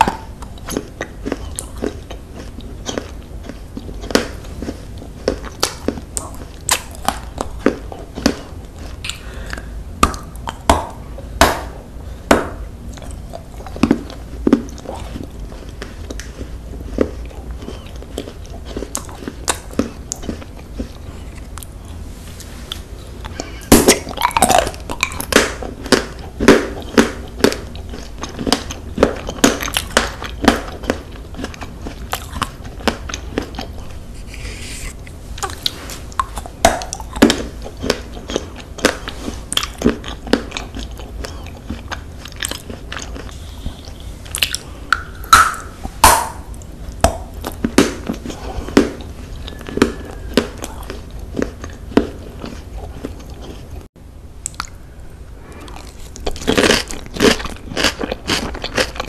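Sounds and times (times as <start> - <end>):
crunchy chewing of snacks: 0.0 - 59.0.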